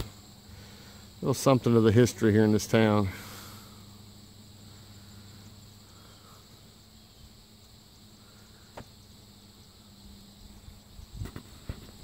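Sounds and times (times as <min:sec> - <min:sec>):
low hum: 0:00.0 - 0:11.7
steady high hiss: 0:00.0 - 0:12.0.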